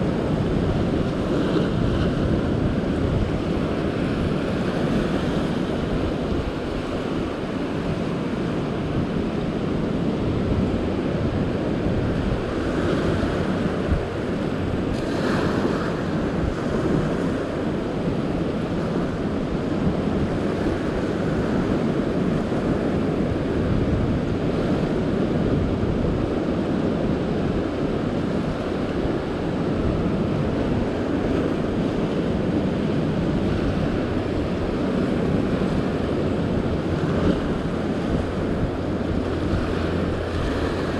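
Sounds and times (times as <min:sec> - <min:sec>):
surf washing over rocks: 0:00.0 - 0:40.9
wind buffeting microphone: 0:00.0 - 0:40.9.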